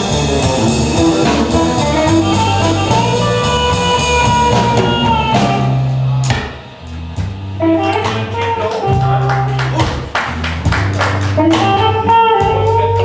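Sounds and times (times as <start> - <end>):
cymbal beat: 0.0 - 13.0
guitar: 0.0 - 13.0
rock band playing: 0.0 - 13.0.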